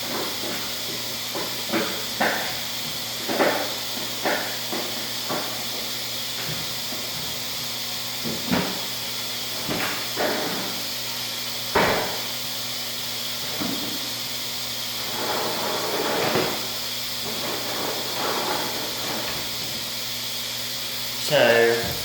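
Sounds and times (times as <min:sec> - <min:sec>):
laundry machines hissing and humming: 0:00.0 - 0:22.0.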